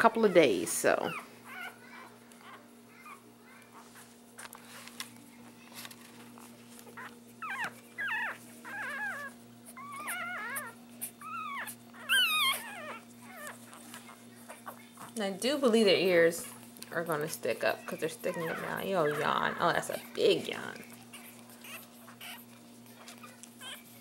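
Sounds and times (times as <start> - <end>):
puppies whimpering and squealing: 0.0 - 4.3, 5.5 - 15.2, 16.0 - 24.0.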